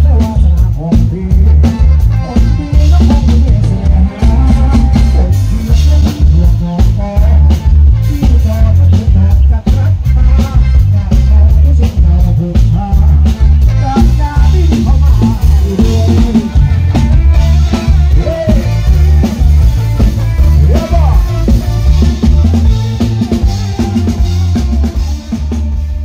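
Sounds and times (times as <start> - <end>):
electric guitar: 0.0 - 26.0
heavy bass: 0.0 - 26.0
live dance band music: 0.0 - 26.0.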